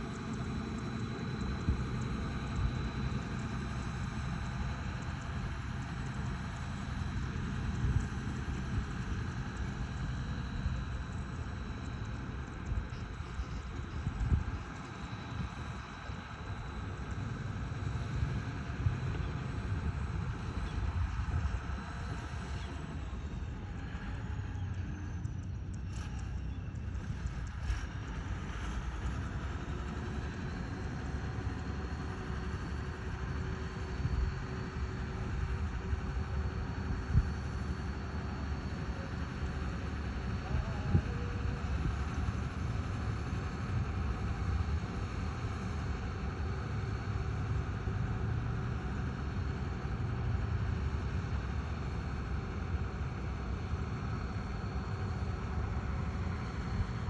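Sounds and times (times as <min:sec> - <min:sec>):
construction machine engine rumbling: 0:00.0 - 0:57.0
faint high whine: 0:00.0 - 0:57.0.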